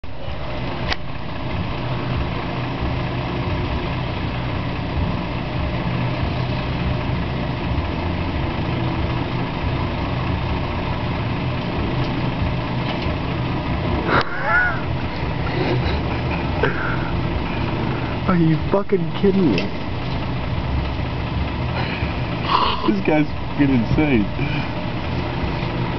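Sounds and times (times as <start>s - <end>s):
truck engine idling: 0.0s - 25.9s.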